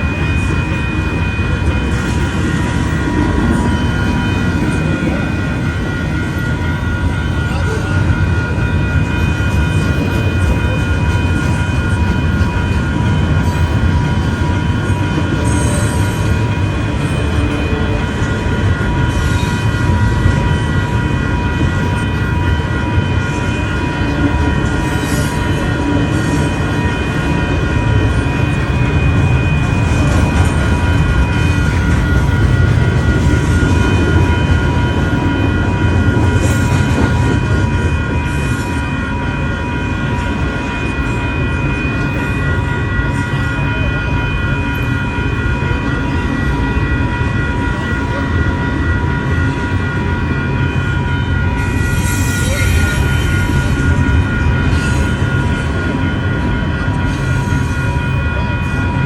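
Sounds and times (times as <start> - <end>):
electronic crossing bell ringing: 0.0 - 59.0
train low rumble: 0.0 - 59.0.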